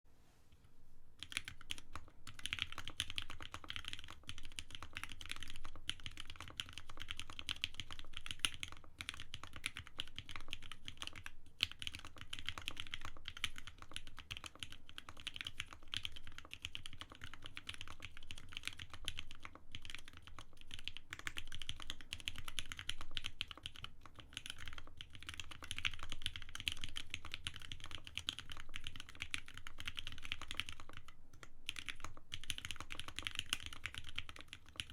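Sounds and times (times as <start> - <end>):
mechanical keyboard typing: 1.2 - 34.9.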